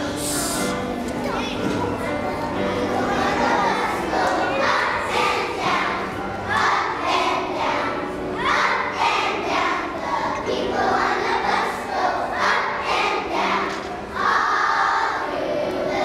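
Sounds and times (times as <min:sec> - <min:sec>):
children singing in unison: 0:02.0 - 0:16.0.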